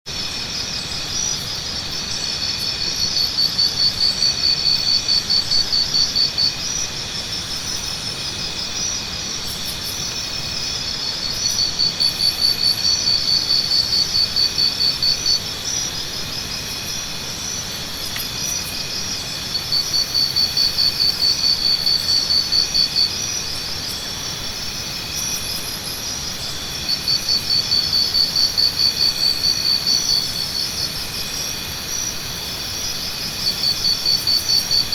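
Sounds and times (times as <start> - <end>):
insects trilling: 0.1 - 34.9
loud pulsing insect trill: 0.1 - 34.9.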